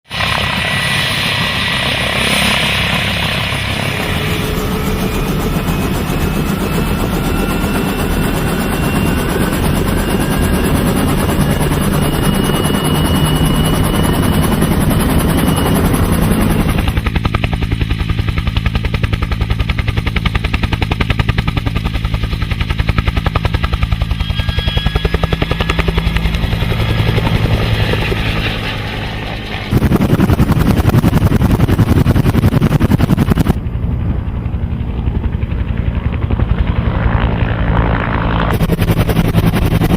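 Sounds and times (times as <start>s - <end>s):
helicopter rotor chop with whine: 0.1s - 39.9s.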